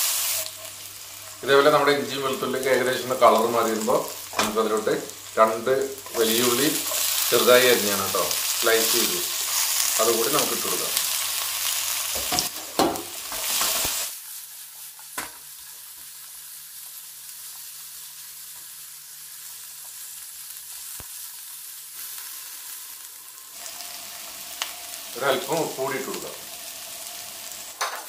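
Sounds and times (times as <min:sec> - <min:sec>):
onions sizzling in a wok: 0:00.0 - 0:28.0.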